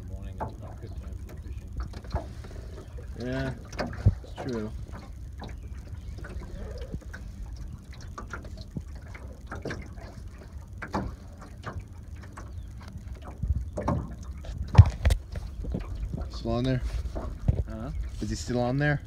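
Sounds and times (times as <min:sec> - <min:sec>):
water lapping against metal boat: 0:00.0 - 0:19.0
wind rumble on microphone: 0:00.0 - 0:19.0
small knocks and clicks: 0:00.3 - 0:17.7.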